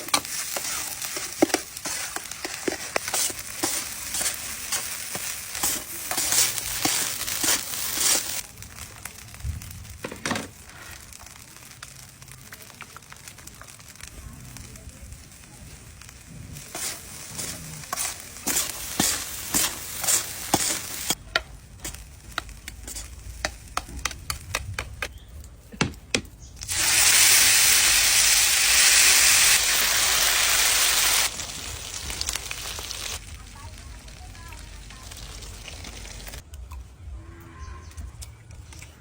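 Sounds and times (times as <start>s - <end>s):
food sizzling in pan: 0.0s - 23.8s, 26.6s - 36.4s
loud steady sizzle: 0.0s - 25.7s, 26.4s - 36.7s.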